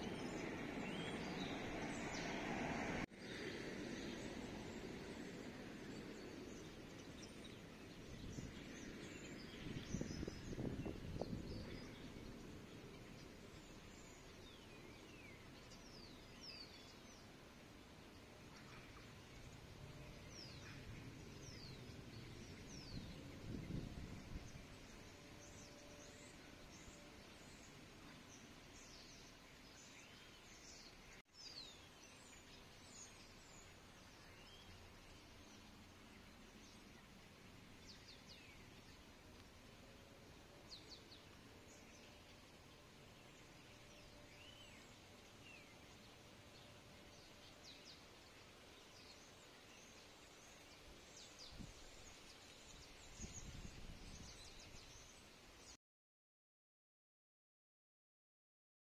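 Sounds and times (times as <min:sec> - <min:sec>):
faint birdsong chirps: 0:00.0 - 0:55.8
outdoor background hiss: 0:00.0 - 0:55.8.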